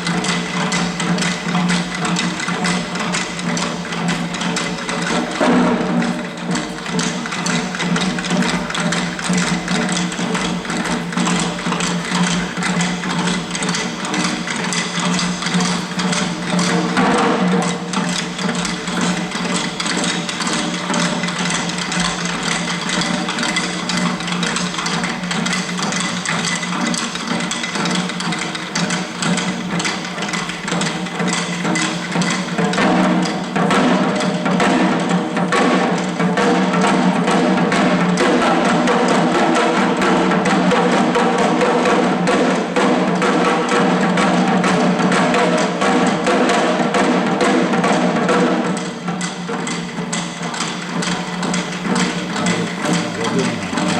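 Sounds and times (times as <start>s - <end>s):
rapid drumbeats: 0.0s - 53.9s.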